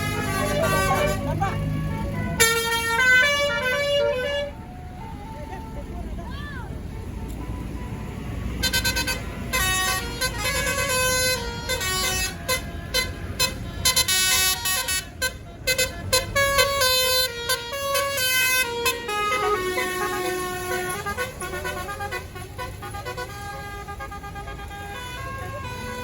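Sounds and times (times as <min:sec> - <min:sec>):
bus horn playing a tune: 0:00.0 - 0:26.0.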